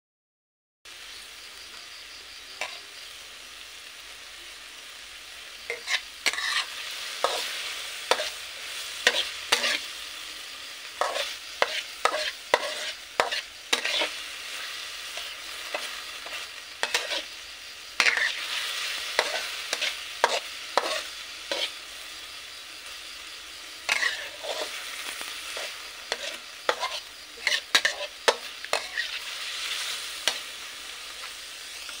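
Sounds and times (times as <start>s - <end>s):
meat sizzling in a wok: 0.9s - 32.0s
metal spatula scraping a wok: 2.6s - 2.8s, 5.2s - 32.0s.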